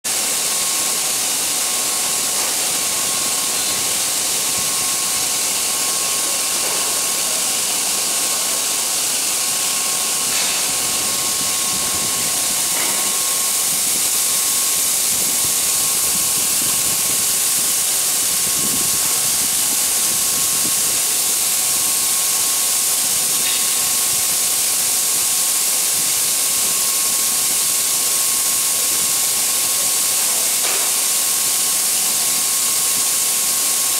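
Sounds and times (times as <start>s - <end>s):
loud hiss: 0.1s - 33.9s.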